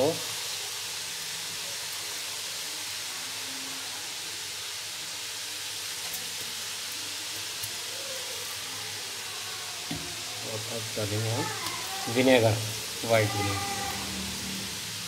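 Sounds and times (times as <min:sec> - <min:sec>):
mince sizzling in hot oil: 0:00.0 - 0:15.0.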